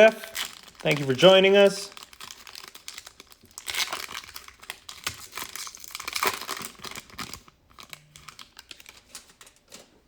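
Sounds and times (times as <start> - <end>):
foil wrapper crinkling and tearing: 0.0 - 10.0
cards crackling and clicking: 0.2 - 9.9.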